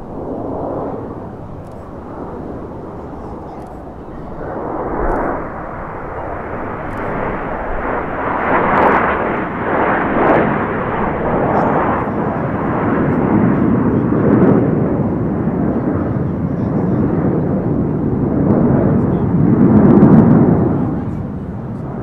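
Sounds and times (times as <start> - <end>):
jets flying past: 0.0 - 22.0.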